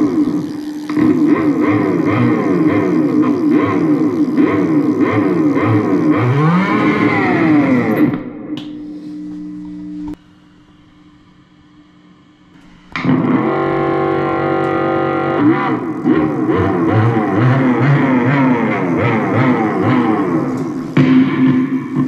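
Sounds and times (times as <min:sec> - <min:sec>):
buzzy electronic tones sweeping: 0:00.0 - 0:22.0
steady buzzing tone: 0:00.0 - 0:22.0.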